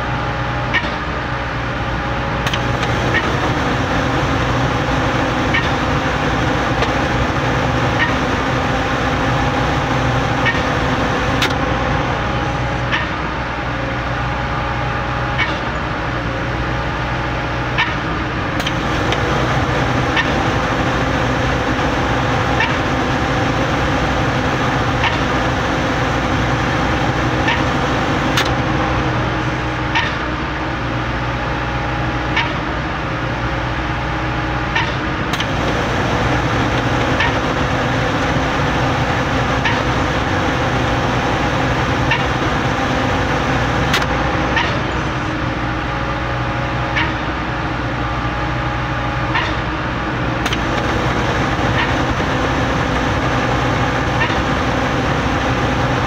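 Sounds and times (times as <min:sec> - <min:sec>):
concrete pump running: 0:00.0 - 0:56.0.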